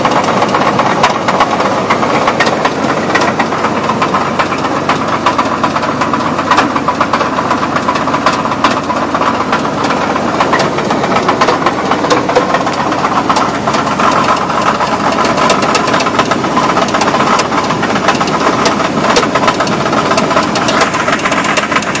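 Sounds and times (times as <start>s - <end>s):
car engine idling: 0.0s - 22.0s
rapid knocking inside engine: 0.0s - 22.0s.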